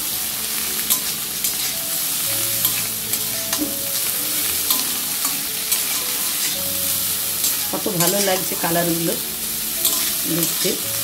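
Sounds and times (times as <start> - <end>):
vegetables sizzling in oil: 0.0 - 11.0
metal spatula scraping pan: 0.8 - 1.7, 2.5 - 10.9.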